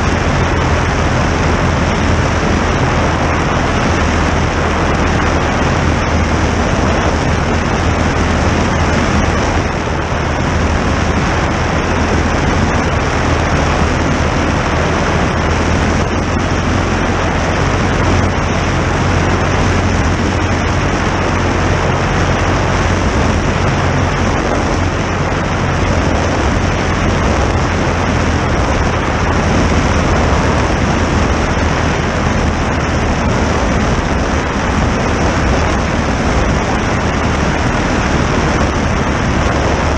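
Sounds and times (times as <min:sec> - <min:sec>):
aircraft engine droning: 0:00.0 - 0:39.9
rush of air: 0:00.0 - 0:39.9.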